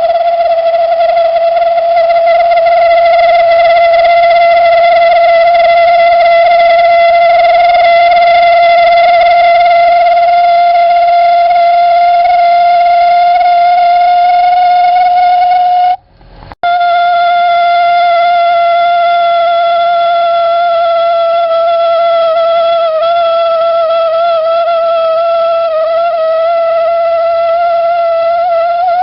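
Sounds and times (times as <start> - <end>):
heater burner hooting: 0.0 - 29.0.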